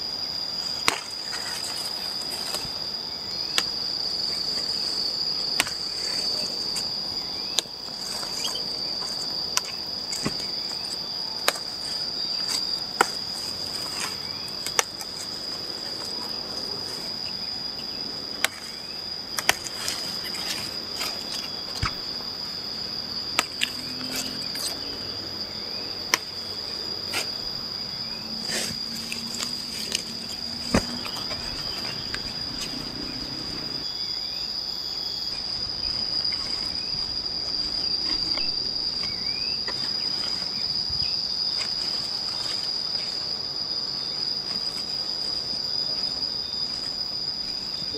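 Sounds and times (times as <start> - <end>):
insects trilling: 0.0 - 47.9
leaves rustling: 0.3 - 25.5, 26.1 - 47.6.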